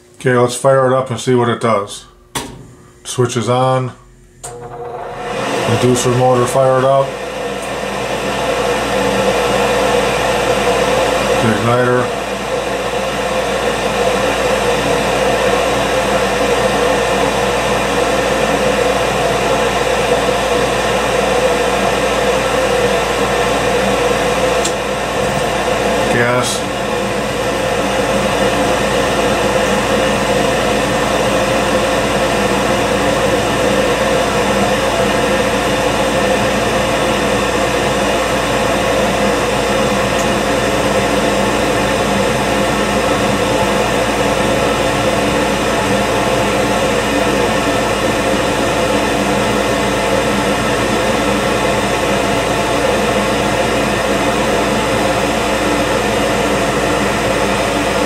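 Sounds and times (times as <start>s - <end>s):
furnace blower and burners humming: 0.0s - 58.0s.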